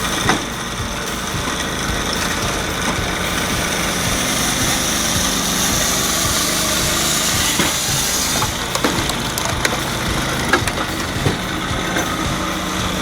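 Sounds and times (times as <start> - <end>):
high whine: 0.0 - 13.0
machine engine running: 0.0 - 13.0.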